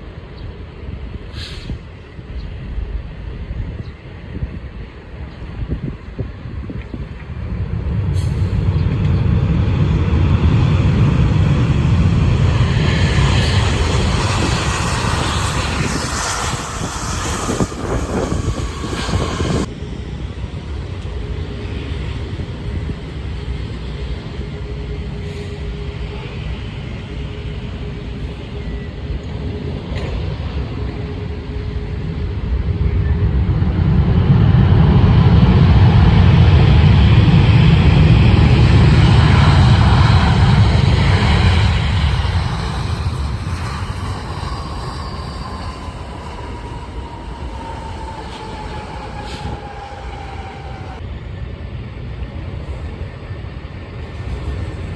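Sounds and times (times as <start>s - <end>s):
jet airliner passing overhead: 0.0s - 54.9s
steady low rumble: 0.0s - 54.9s.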